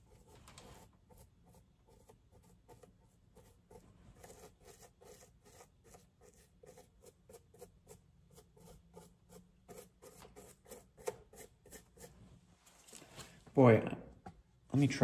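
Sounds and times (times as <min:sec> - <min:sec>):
brush scratching on mask: 0:00.0 - 0:12.8.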